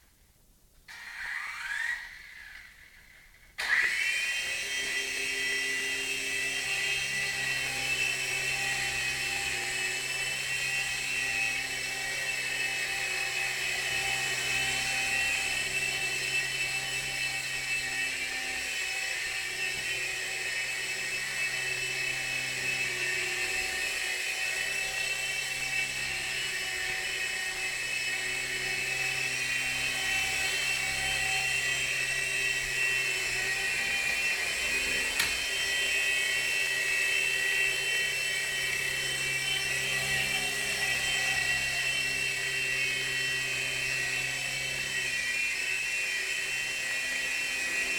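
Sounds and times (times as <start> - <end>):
toy helicopter motors whining: 0.9 - 47.9.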